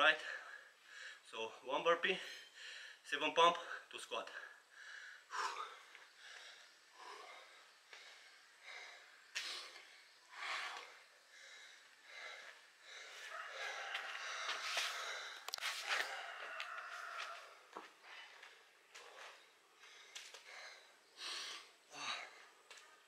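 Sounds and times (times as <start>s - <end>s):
person breathing hard: 0.2s - 1.3s, 2.2s - 3.1s, 4.5s - 22.8s.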